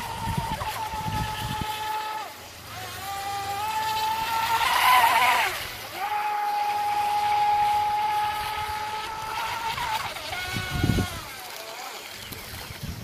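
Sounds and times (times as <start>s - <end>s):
electric boat motor whining: 0.0s - 12.6s
rush of spray: 0.0s - 13.0s.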